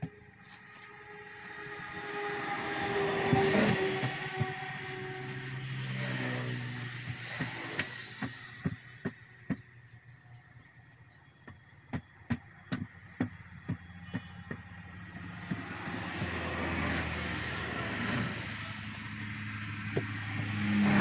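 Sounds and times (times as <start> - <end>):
vehicle passing: 0.6 - 9.1, 12.6 - 21.0.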